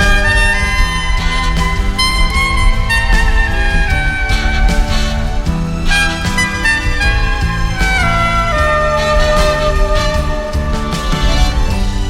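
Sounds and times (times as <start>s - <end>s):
backing track with bass and beat: 0.0s - 12.0s
soprano saxophone melody: 0.0s - 12.0s.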